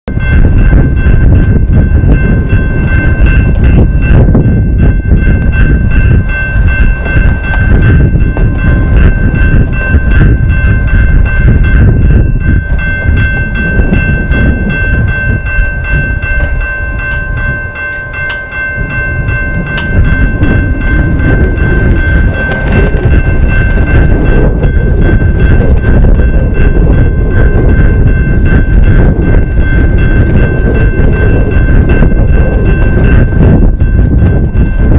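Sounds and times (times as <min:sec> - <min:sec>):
loud low rumble: 0:00.1 - 0:34.9
railroad crossing bells: 0:00.1 - 0:34.9.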